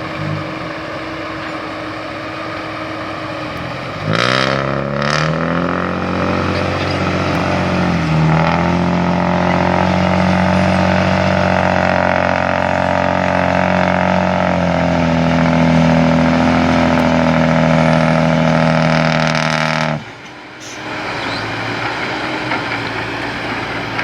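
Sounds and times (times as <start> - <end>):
diesel truck engine running hard: 0.0 - 24.0
rough engine sound: 0.0 - 24.0.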